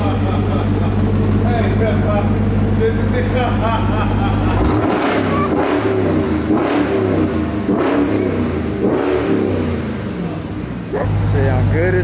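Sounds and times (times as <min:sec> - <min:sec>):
loud engine exhaust revving: 0:00.0 - 0:12.0.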